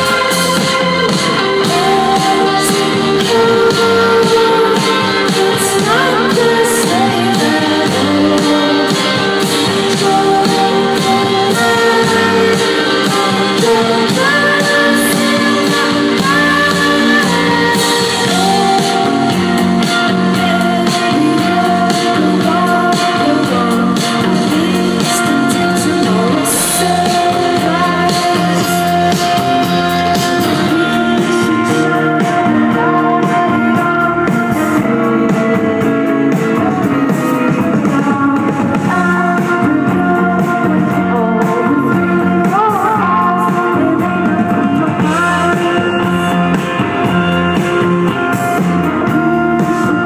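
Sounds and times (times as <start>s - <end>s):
drums: 0.0s - 50.0s
electric guitar: 0.0s - 50.0s
keyboard: 0.0s - 50.0s
woman singing: 0.0s - 50.0s.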